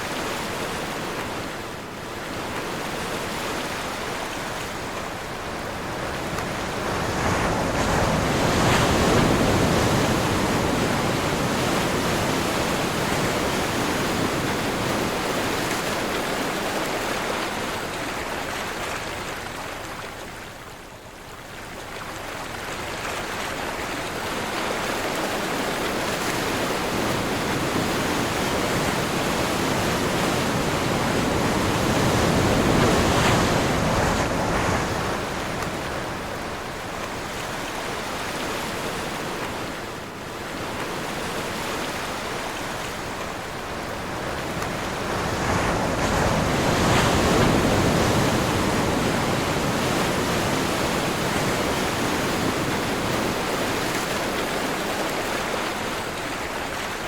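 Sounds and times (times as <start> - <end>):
ocean waves rushing: 0.0 - 18.6, 23.6 - 57.0
wind: 0.0 - 57.0.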